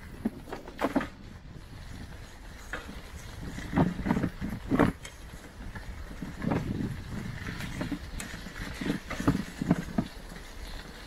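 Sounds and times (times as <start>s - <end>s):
bicycle knocks and rattles: 0.0s - 11.0s.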